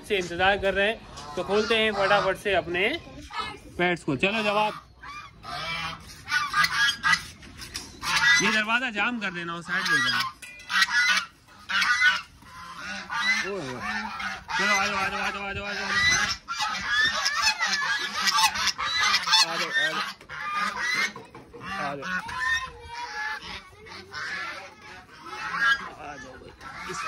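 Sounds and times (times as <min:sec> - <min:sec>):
chickens: 0:00.1 - 0:27.0
ducks: 0:00.2 - 0:27.0
geese honking: 0:01.0 - 0:03.6, 0:04.2 - 0:27.0.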